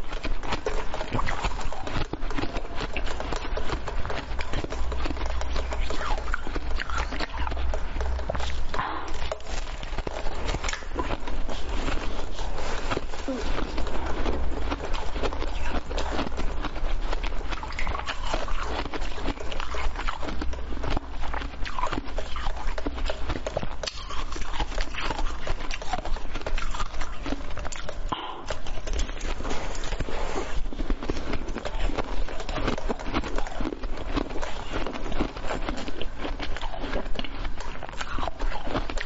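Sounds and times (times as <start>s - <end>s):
ice being chewed and crunching: 0.0s - 39.0s.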